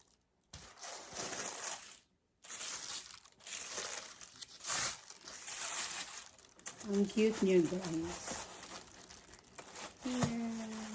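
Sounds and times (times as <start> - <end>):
packaging crinkling: 0.0 - 10.9.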